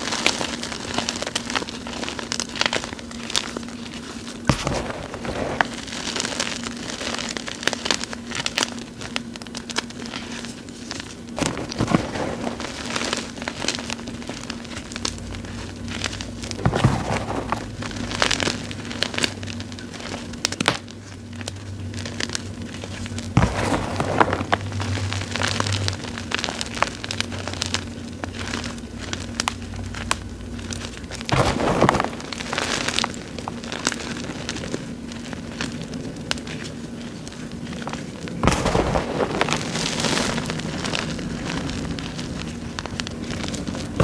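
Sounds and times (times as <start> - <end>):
chalk blocks crunching by hand: 3.4 - 7.4, 10.1 - 44.0.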